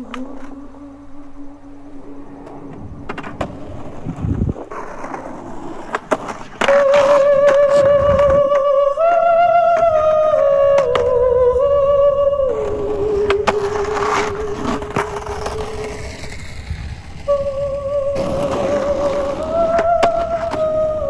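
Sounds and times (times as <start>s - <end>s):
skateboard wheels rolling on asphalt: 0.0s - 21.0s
skateboard clacks: 2.4s - 11.3s, 12.5s - 21.0s.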